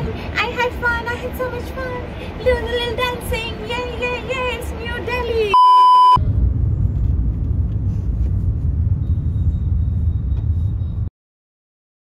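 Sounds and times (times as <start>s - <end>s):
car engine and road noise: 0.0s - 11.1s.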